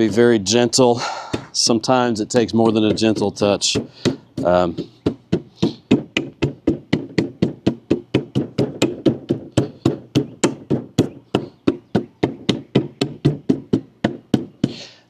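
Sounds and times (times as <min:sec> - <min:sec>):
hammer tapping wood: 0:00.0 - 0:14.8.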